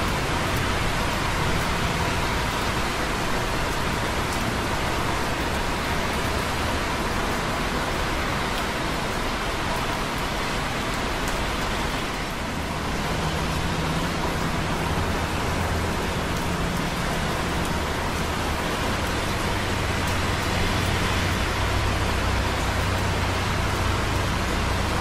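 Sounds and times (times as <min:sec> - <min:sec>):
rain dripping on concrete: 0:00.0 - 0:25.0
traffic on wet roads: 0:00.0 - 0:25.0.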